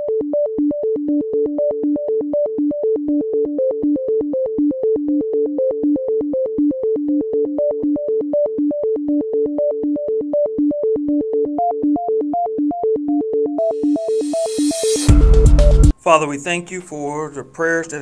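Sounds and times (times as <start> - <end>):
synthesizer arpeggio music: 0.0 - 16.0.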